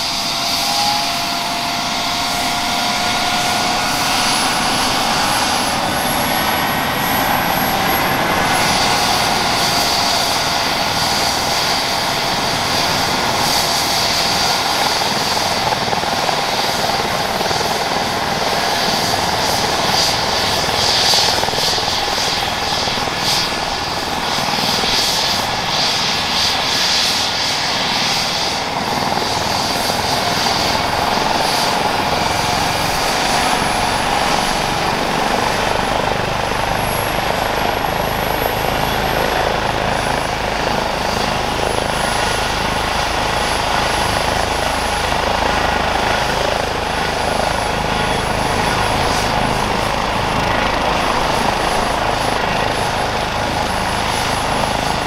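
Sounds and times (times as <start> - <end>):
helicopter rotor noise: 0.0 - 55.0
helicopter turbine whine: 0.0 - 55.0.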